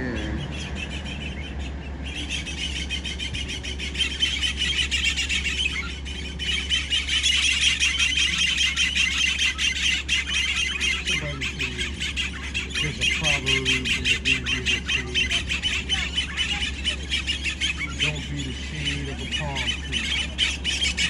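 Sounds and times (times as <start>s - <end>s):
birds chattering and chirping: 0.0s - 21.0s.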